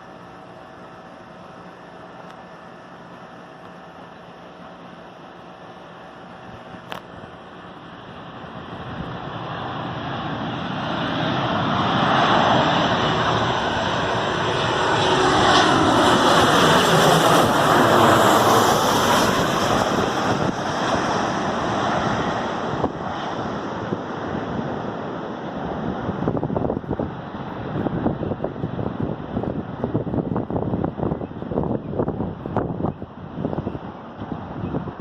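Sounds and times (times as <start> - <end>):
jet airliner flying overhead: 0.0 - 35.0.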